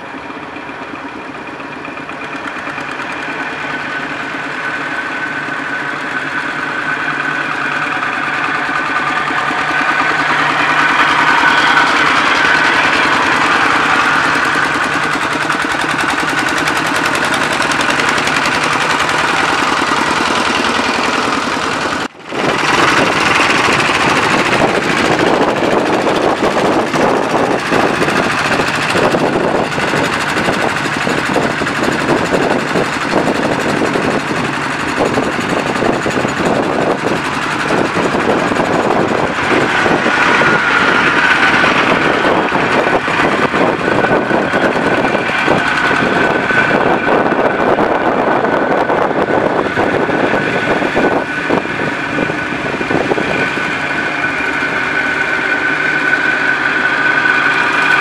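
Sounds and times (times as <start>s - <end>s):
tractor engine knocking chug: 0.0s - 58.0s
tractor engines droning: 0.0s - 58.0s.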